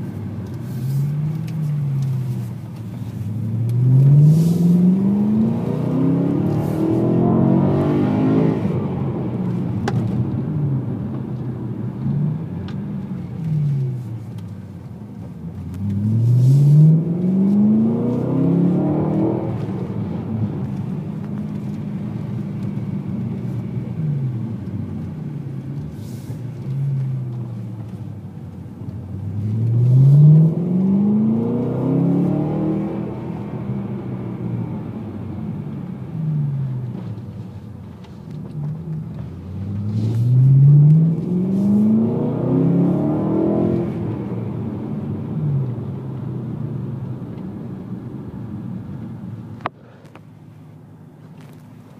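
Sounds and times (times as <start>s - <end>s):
car engine accelerating hard: 0.7s - 14.5s, 15.2s - 50.2s.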